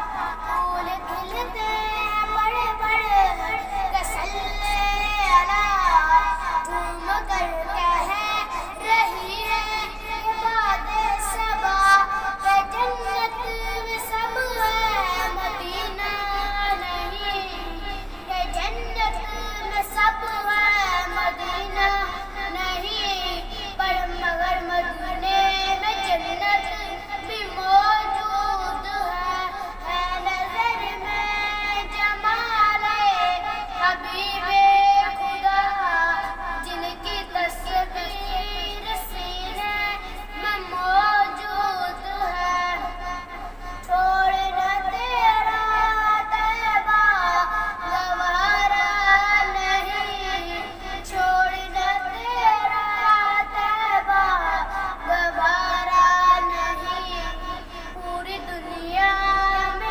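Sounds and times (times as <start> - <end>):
boy singing devotional song: 0.0 - 59.9.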